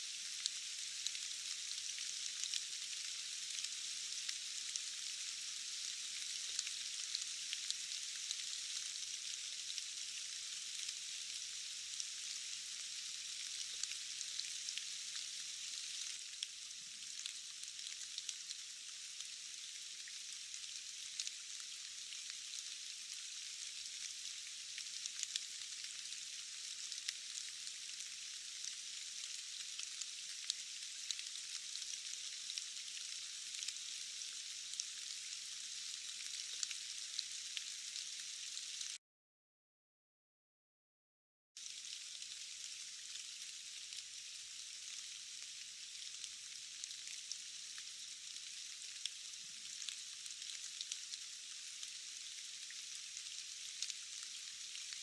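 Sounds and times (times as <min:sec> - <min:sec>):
steady rain: 0:00.0 - 0:39.0, 0:41.6 - 0:55.0.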